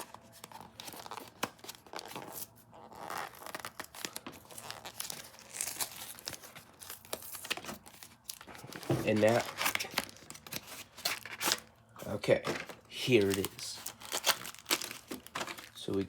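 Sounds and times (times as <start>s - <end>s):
packaging tearing and crinkling: 0.0s - 11.7s, 12.4s - 16.0s.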